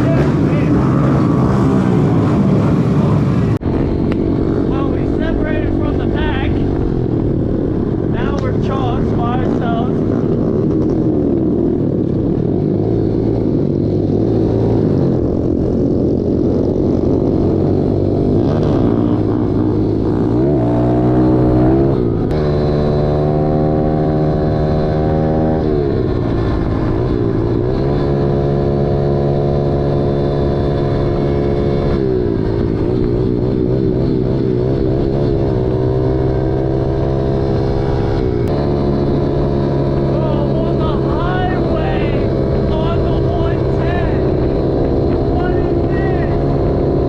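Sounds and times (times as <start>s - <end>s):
pit bike engine running: 0.0s - 47.0s.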